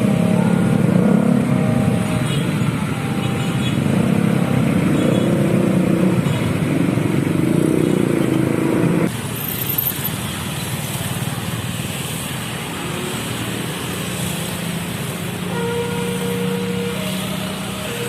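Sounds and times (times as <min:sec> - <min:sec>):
motorcycle and car engines: 0:00.0 - 0:18.0
steady traffic noise: 0:00.0 - 0:18.0.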